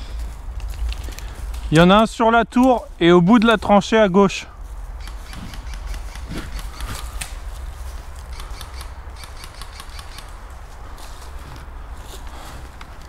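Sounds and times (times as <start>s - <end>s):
footsteps crunching through dry leaves: 0.0s - 8.4s, 10.3s - 12.8s.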